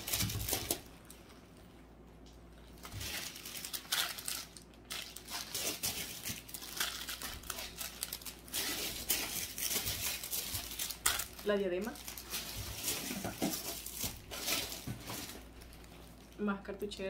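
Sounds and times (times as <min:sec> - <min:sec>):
packaging crinkling: 0:00.0 - 0:01.2, 0:02.7 - 0:16.4.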